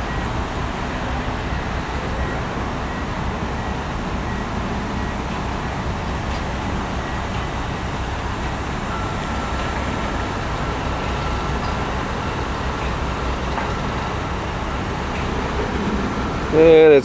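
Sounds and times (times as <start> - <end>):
construction machinery engine rumble: 0.0 - 17.0.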